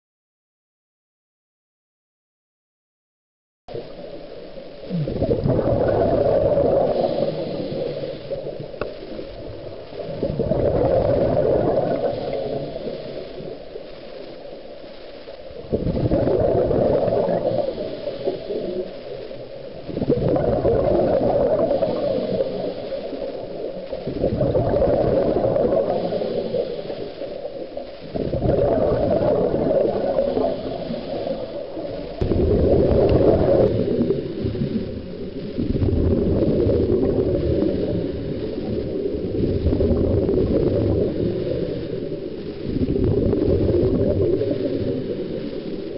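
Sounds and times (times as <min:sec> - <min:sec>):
underwater regulator bubbles: 0:04.8 - 0:14.0, 0:15.5 - 0:45.9.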